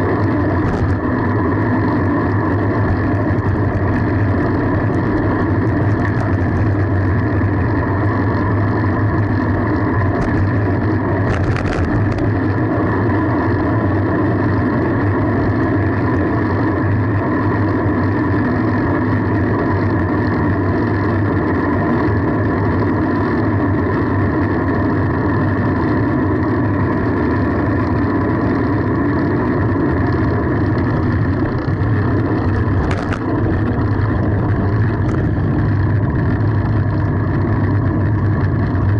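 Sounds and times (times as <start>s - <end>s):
bicycle rattle: 0.0s - 38.9s
road rumble: 0.0s - 38.9s
wind on microphone: 0.0s - 38.9s.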